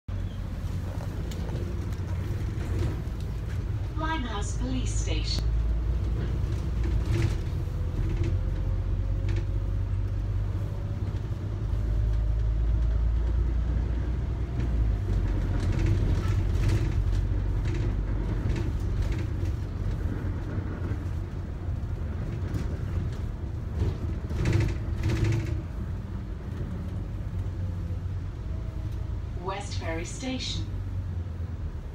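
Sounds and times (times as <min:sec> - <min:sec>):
bus engine and road rumble: 0:00.1 - 0:31.9.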